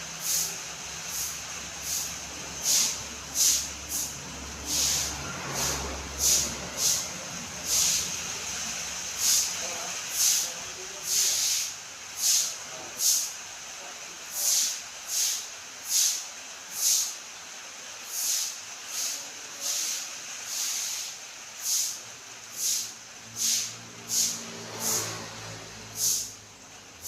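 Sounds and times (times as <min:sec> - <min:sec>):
broom sweeping: 0:00.0 - 0:13.3, 0:14.3 - 0:17.2, 0:18.0 - 0:26.4.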